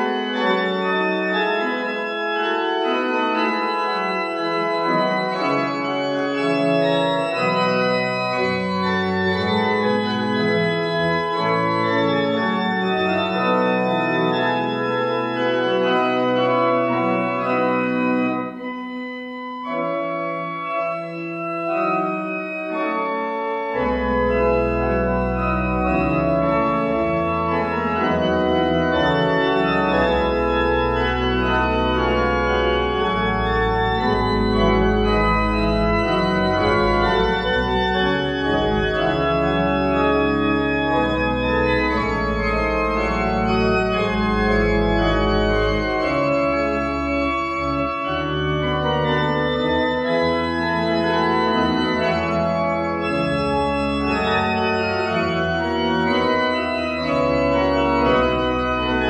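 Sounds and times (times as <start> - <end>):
church organ playing: 0.0 - 59.0.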